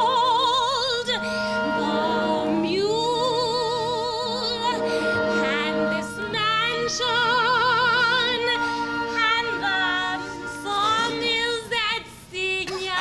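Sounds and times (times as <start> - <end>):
woman singing opera: 0.0 - 13.0
instrumental accompaniment: 1.1 - 11.8.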